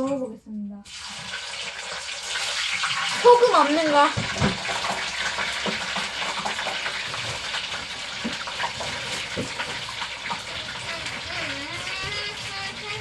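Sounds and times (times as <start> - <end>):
fries sizzling in hot oil: 0.8 - 13.0.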